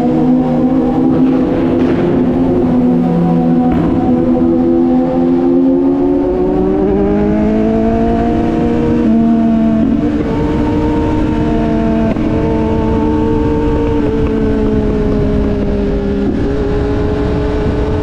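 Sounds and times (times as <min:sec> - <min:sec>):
motorcycle engine running: 0:00.0 - 0:17.9
wind rumble on microphone: 0:00.0 - 0:18.0.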